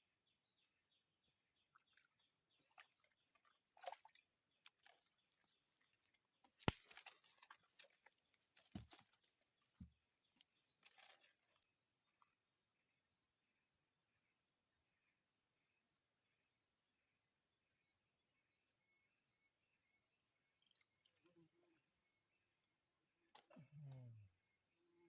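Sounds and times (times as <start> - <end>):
faint insect chirping: 0.0 - 25.0.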